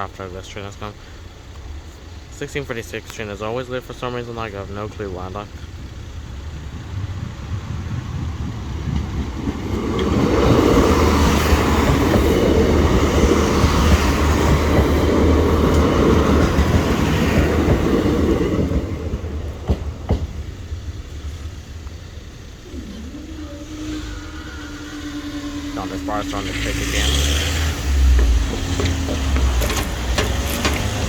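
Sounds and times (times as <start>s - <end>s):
train engine hum: 0.0s - 31.0s
train wheels rumbling: 0.0s - 31.0s.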